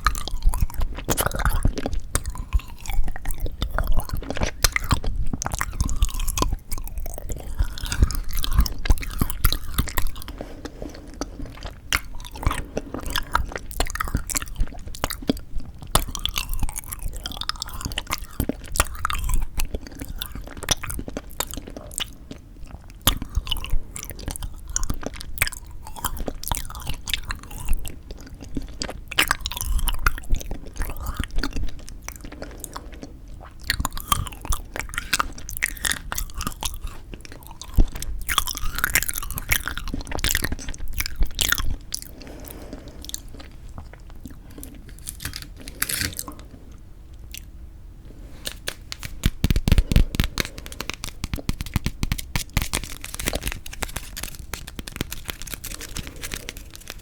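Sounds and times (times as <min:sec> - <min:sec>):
chewing frozen jelly: 0:00.0 - 0:57.0.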